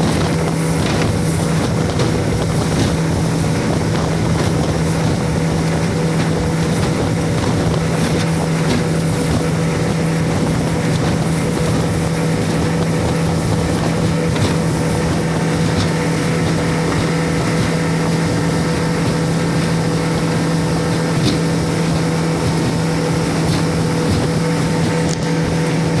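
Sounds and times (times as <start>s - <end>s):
boat motor humming: 0.0s - 26.0s
rushing wind and water: 0.0s - 26.0s.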